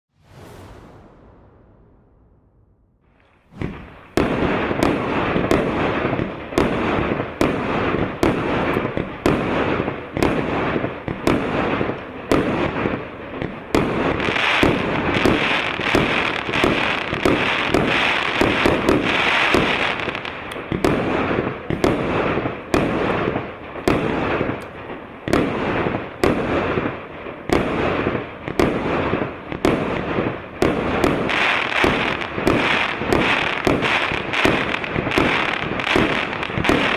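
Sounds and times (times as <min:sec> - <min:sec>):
firework crackling: 0:00.1 - 0:36.9
firework shots: 0:00.1 - 0:36.9.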